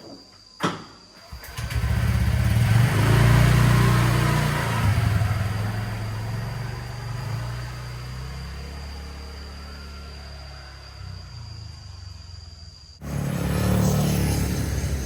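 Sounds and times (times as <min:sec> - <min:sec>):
engine starting and revving: 0:01.2 - 0:11.8, 0:13.0 - 0:15.0.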